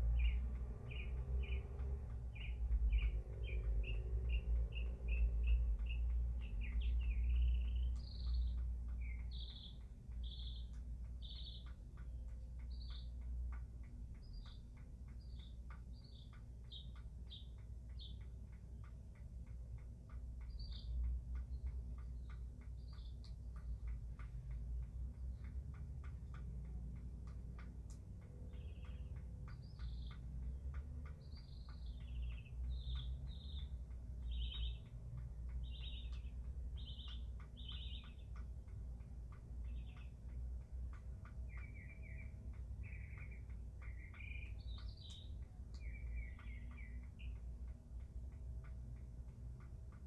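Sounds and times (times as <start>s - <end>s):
bird chirping: 0.0s - 18.4s, 20.4s - 24.5s, 28.3s - 47.8s
water drips ticking: 0.0s - 50.0s.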